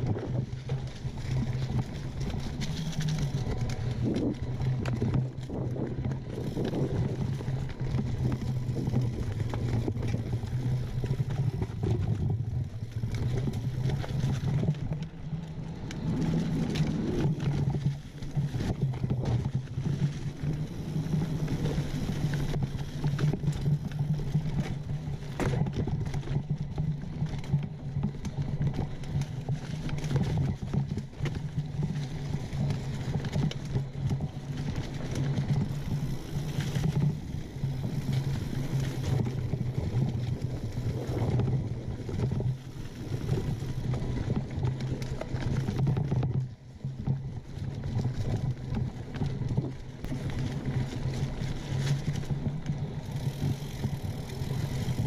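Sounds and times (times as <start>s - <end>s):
bike rattling over rocks: 0.0s - 55.0s
bike tyres on dirt: 0.0s - 55.0s.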